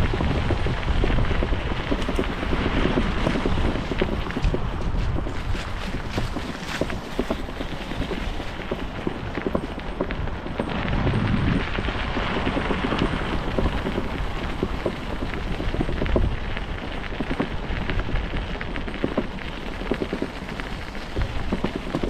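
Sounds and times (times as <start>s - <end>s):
bicycle tyres rolling on grit: 0.0s - 22.0s
wind buffeting microphone: 0.0s - 22.0s.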